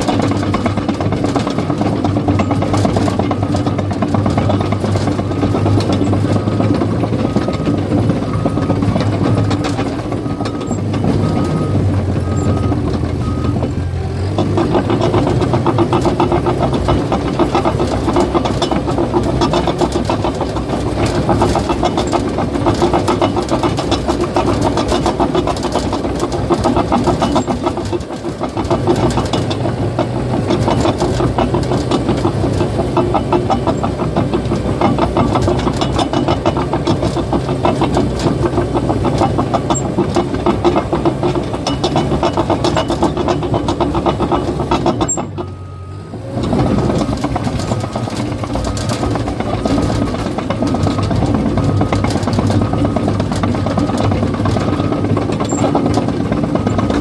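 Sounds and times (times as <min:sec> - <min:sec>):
bulldozer diesel engine running: 0:00.0 - 0:57.0
steel tracks clattering: 0:00.0 - 0:57.0.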